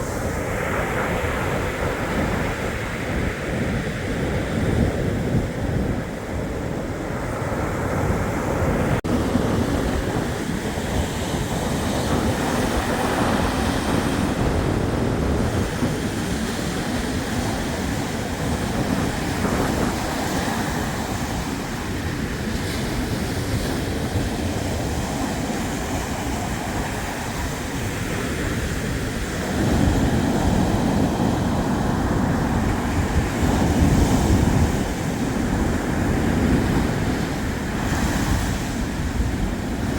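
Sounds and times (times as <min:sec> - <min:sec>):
surf washing onto shore: 0:00.0 - 0:39.9
wind buffeting microphone: 0:00.0 - 0:39.9.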